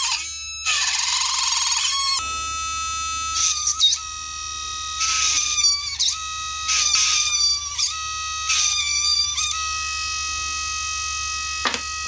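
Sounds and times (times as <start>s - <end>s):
small drill motor whining: 0.0s - 12.0s.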